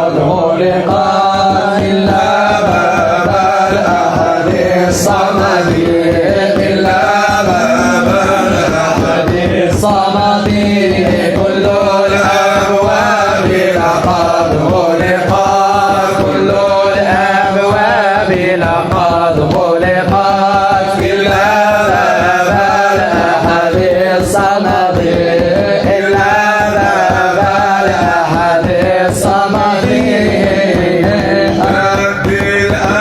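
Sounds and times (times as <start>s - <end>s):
voices singing wordless melody: 0.0s - 33.0s.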